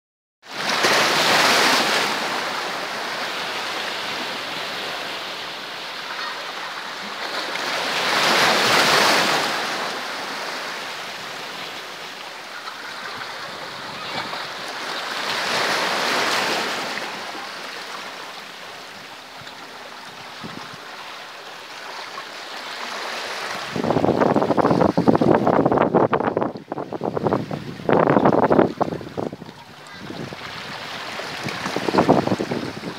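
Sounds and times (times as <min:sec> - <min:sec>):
sea waves washing over boulders: 0:00.5 - 0:32.9.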